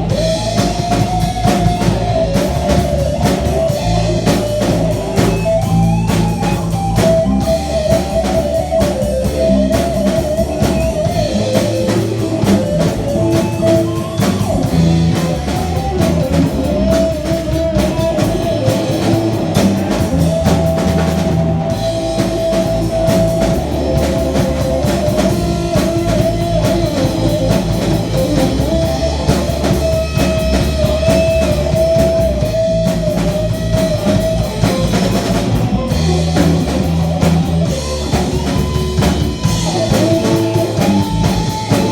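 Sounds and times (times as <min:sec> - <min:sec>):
guitar lead with bending notes: 0:00.0 - 0:41.9
rock band instrumental: 0:00.0 - 0:41.9.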